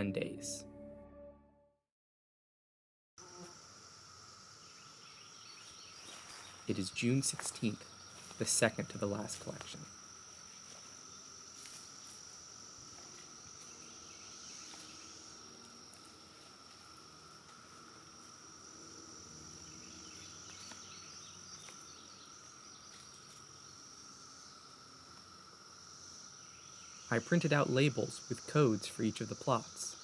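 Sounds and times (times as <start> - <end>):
insects trilling: 3.2 - 30.0.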